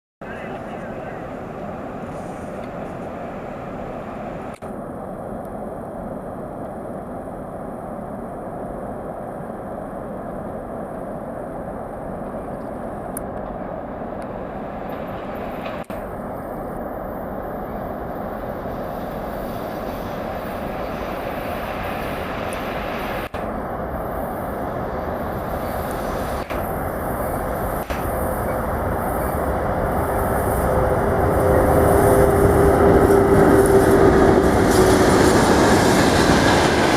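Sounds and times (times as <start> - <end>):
freight train rumbling: 0.2 - 36.9.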